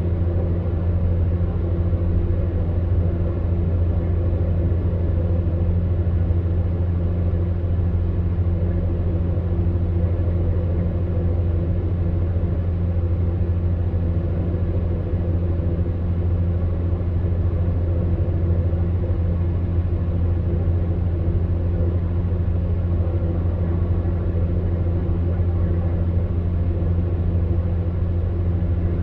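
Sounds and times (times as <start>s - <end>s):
fan heater humming: 0.0s - 29.0s.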